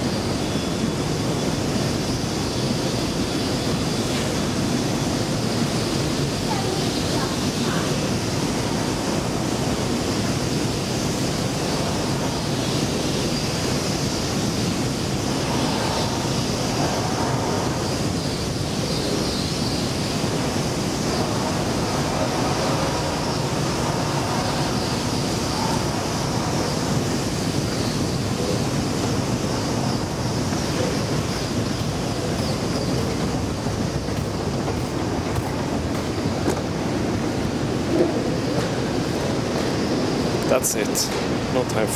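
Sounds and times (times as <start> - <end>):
escalator rumbling hiss: 0.0 - 41.9.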